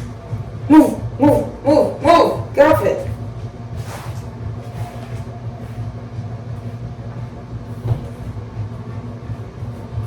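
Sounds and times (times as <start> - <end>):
household machine humming: 0.0 - 10.0.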